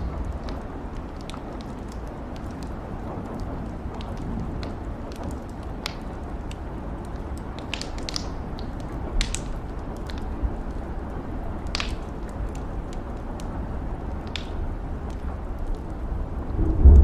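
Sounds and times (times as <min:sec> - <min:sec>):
rain hissing: 0:00.0 - 0:17.0
wood fire crackling and popping: 0:00.0 - 0:17.0.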